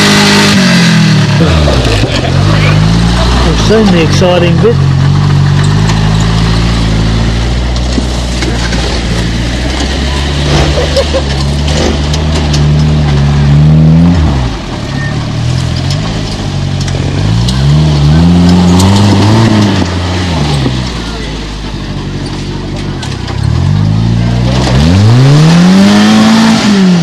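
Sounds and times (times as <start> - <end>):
buggy engine revving: 0.0 - 27.0.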